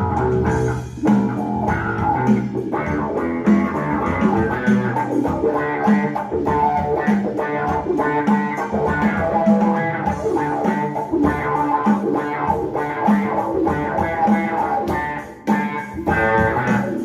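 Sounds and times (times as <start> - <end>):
electric bass guitar groove: 0.0 - 17.0.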